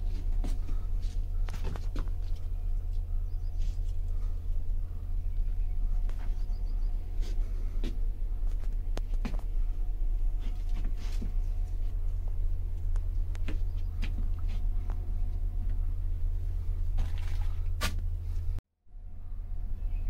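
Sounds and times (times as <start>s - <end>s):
bus engine low rumble: 0.0s - 20.0s.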